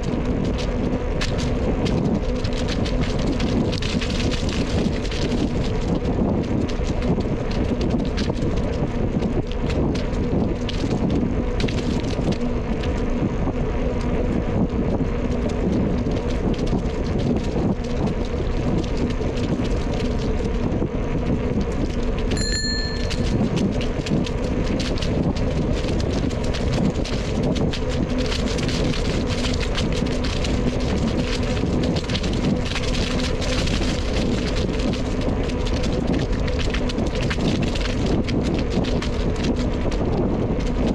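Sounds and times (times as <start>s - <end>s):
bicycle tyres rolling: 0.0s - 40.9s
faint steady hum: 0.0s - 40.9s
wind on microphone: 0.0s - 40.9s.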